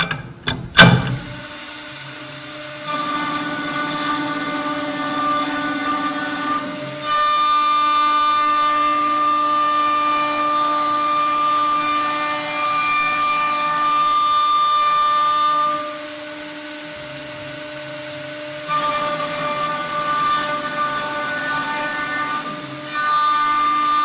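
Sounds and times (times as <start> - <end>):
router bit cutting wood: 0.8 - 24.0.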